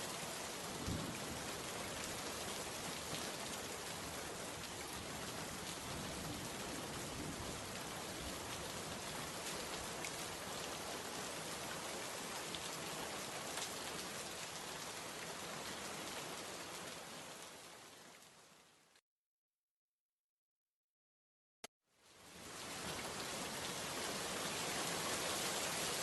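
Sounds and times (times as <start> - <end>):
steady rain falling: 0.0 - 19.0, 22.0 - 26.0.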